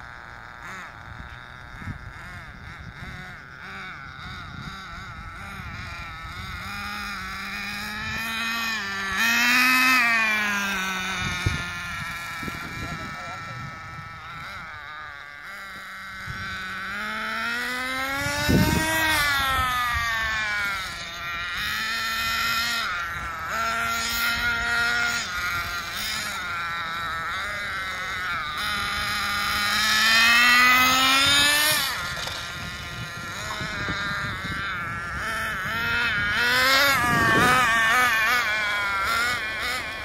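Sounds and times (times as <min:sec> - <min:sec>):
small engine buzzing and revving: 0:00.0 - 0:40.0.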